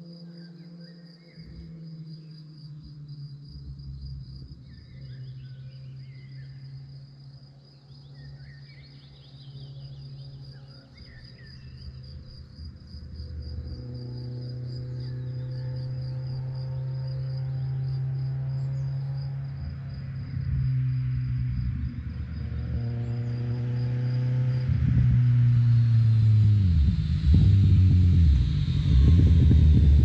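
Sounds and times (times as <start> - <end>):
crickets chirping: 0.0 - 30.0
low steady hum: 0.0 - 30.0.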